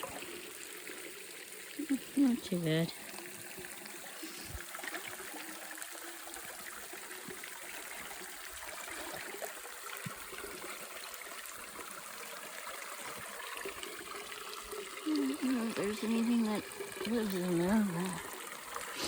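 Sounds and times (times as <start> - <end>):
creek water over rocks: 0.0 - 19.0.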